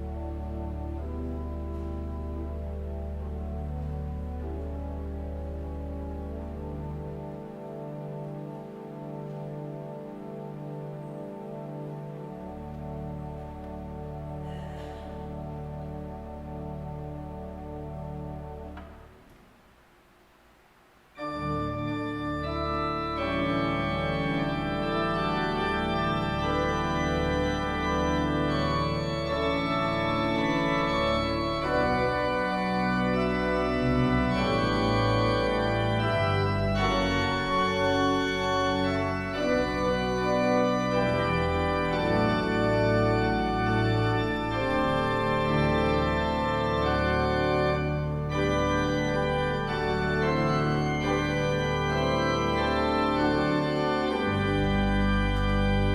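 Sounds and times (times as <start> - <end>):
church organ playing chords: 0.0 - 19.3, 21.2 - 55.9.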